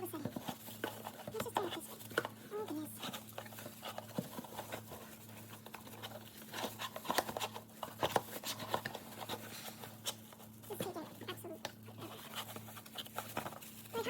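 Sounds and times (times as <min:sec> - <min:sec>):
items and packaging being handled: 0:00.0 - 0:14.0.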